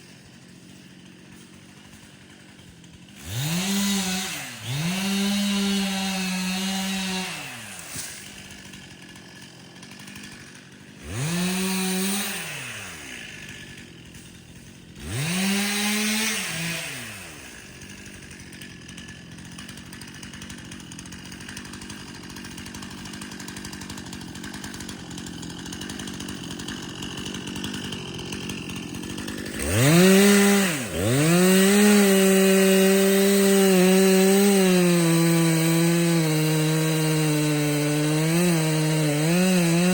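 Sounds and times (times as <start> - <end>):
two-stroke chainsaw revving: 0.0 - 39.9.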